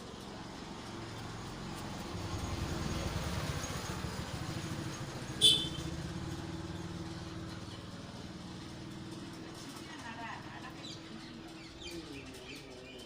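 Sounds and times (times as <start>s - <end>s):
motor engine rumbling: 0.0s - 13.0s.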